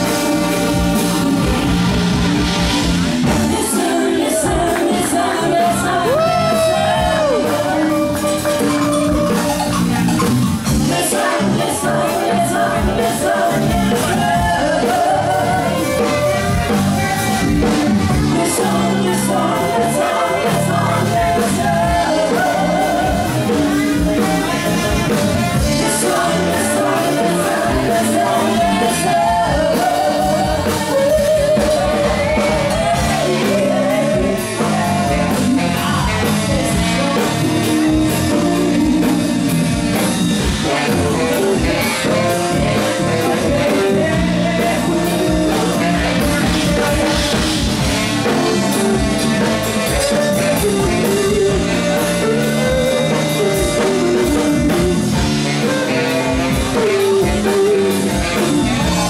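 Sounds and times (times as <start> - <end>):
drum kit: 0.0 - 59.0
electric bass: 0.0 - 59.0
keyboards: 0.0 - 59.0
percussion: 0.0 - 59.0
saxophone: 0.0 - 59.0
woman singing: 3.3 - 9.4, 10.8 - 39.5, 40.6 - 59.0.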